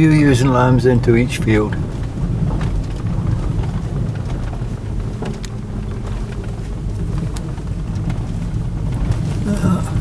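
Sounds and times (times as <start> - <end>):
light knocks and rattles: 0.0 - 10.0
vehicle engine and road rumble: 0.0 - 10.0.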